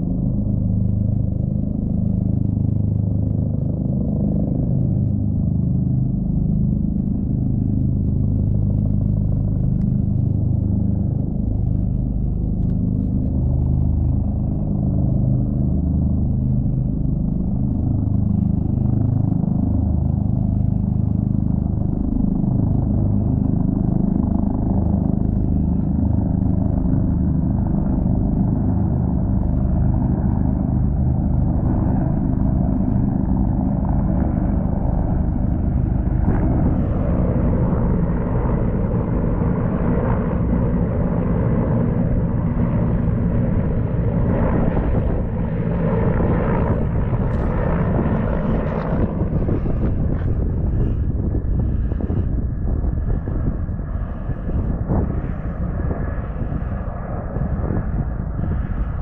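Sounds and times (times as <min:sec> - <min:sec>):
helicopter rotors droning: 0:00.0 - 0:59.0.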